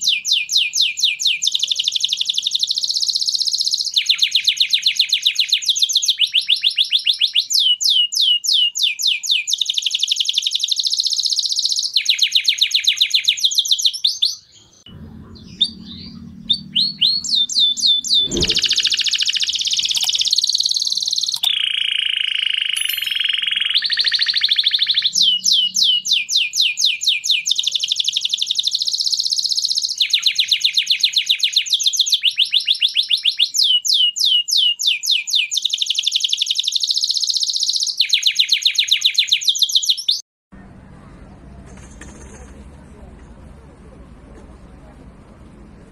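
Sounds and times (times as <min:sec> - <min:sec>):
canary singing trills: 0:00.0 - 0:40.2.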